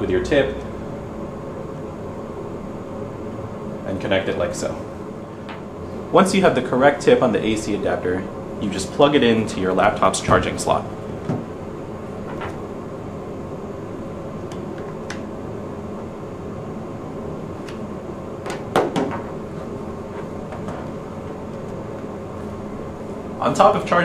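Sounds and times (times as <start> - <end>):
room hum: 0.0 - 24.0.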